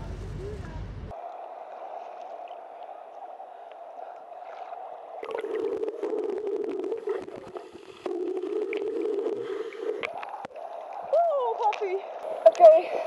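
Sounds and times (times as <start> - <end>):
muffled hollow water rush: 1.1 - 13.0
crackling underwater bubbles: 1.9 - 13.0.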